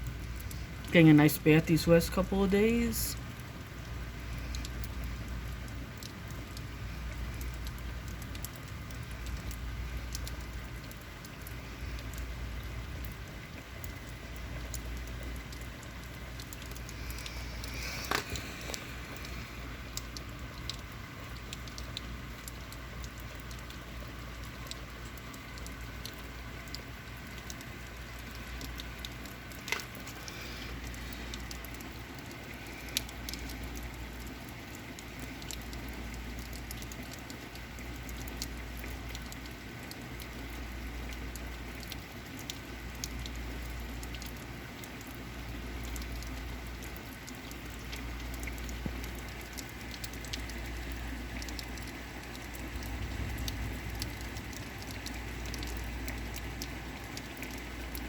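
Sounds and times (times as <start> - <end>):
drip clicks: 0.0 - 0.9, 3.2 - 58.0
rain pattering: 0.0 - 58.0.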